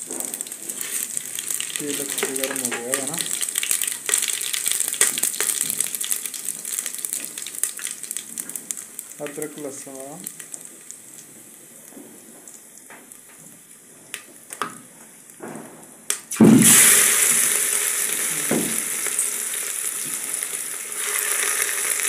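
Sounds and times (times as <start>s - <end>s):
paste sizzling in hot oil: 0.0s - 15.4s, 16.0s - 22.0s.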